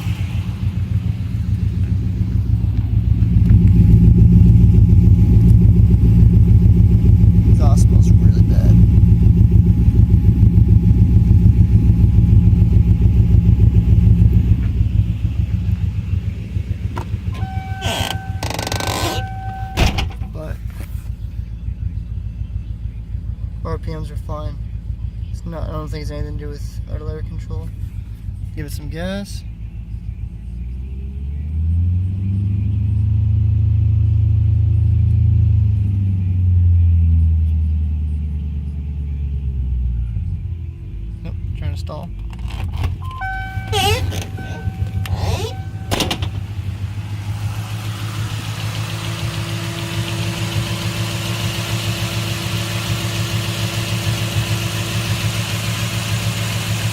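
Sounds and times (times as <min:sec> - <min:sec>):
car engine idling roughly: 0:00.0 - 0:30.4, 0:41.5 - 0:56.9.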